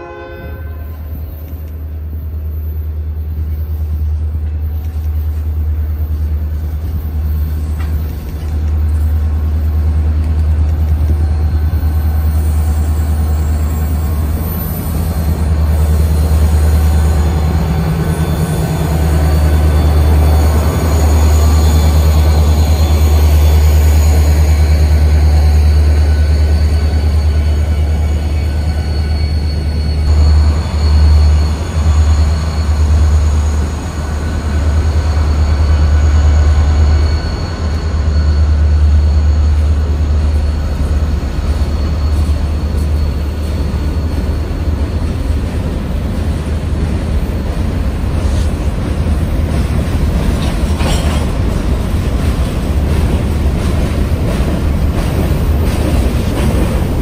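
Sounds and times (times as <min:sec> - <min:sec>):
diesel locomotive engines rumbling: 0:00.0 - 0:57.0
train rolling on rails: 0:00.0 - 0:57.0.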